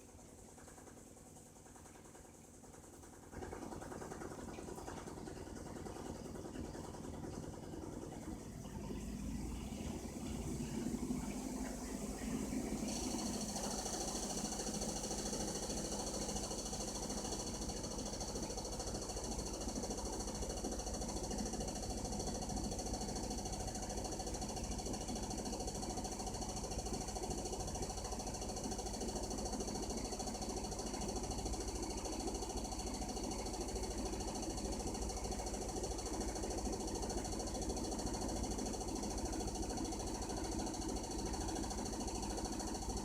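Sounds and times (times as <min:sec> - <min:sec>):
washing machine spinning with whine: 0:00.0 - 0:43.0.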